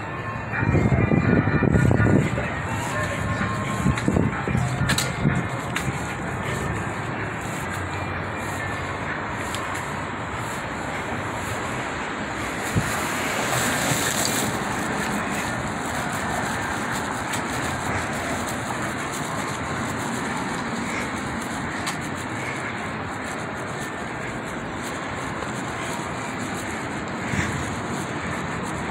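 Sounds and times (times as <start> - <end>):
street traffic: 0.0 - 28.9.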